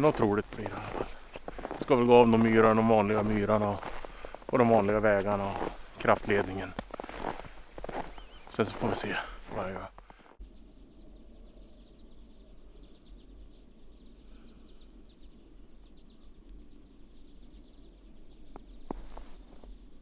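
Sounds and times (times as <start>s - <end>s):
low steady hum: 0.0s - 20.0s
small birds chirping: 0.0s - 20.0s.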